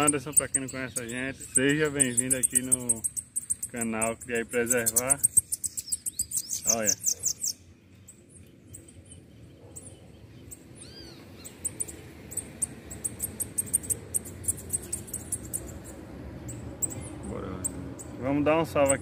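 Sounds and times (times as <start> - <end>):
bird singing high thin chirps: 0.0 - 19.0.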